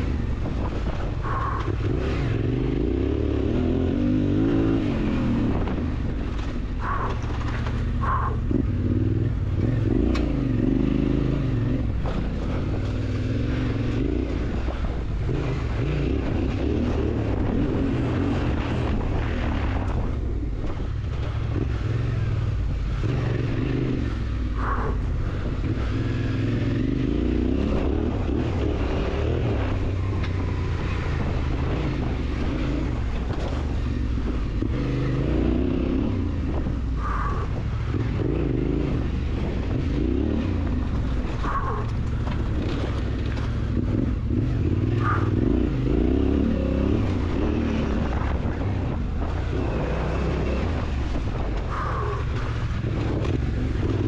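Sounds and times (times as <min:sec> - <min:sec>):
motorcycle engine revving: 0:00.0 - 0:54.0
wind noise: 0:00.0 - 0:54.0.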